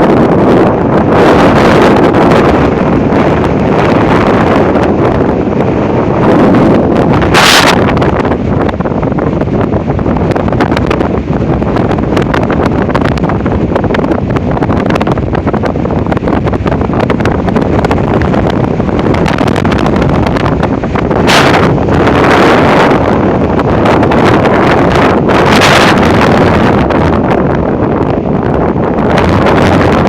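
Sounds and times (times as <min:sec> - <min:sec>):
high wind buffeting microphone: 0:00.0 - 0:30.0.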